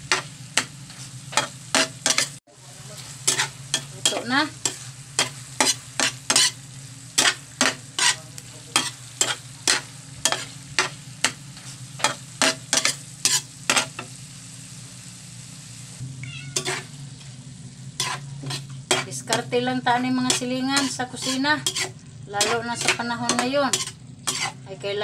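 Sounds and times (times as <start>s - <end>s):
metal spatula scraping a wok: 0.0s - 14.1s, 16.5s - 24.7s
faint sizzle: 0.0s - 25.0s.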